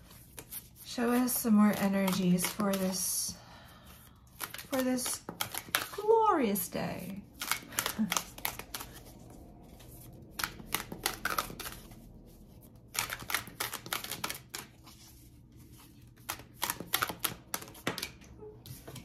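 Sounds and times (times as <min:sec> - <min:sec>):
deck of cards shuffled by hand: 0:00.0 - 0:03.1, 0:04.2 - 0:19.0.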